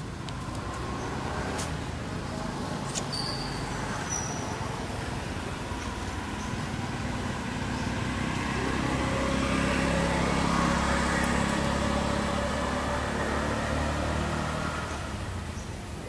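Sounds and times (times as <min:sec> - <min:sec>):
vehicle engine passing by: 0:00.0 - 0:16.0.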